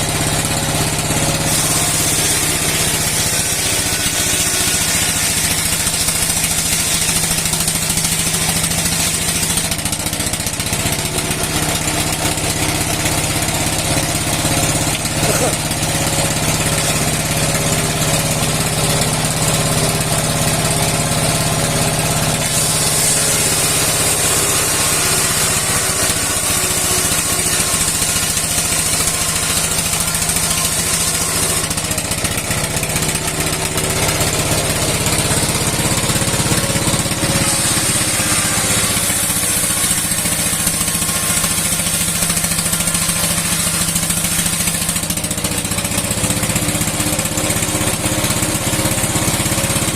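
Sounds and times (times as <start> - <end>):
engine running under load: 0.0 - 49.9
saw blade hissing through wood: 0.1 - 49.9.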